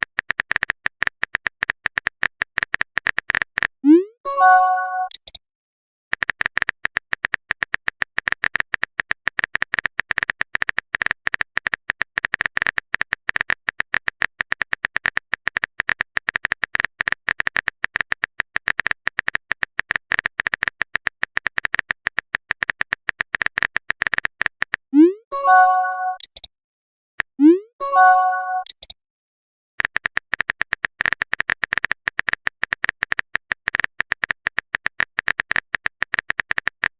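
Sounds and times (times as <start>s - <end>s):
keyboard typing clicks: 0.0s - 5.4s, 6.1s - 24.8s, 25.4s - 26.5s, 27.2s - 29.0s, 29.8s - 36.9s.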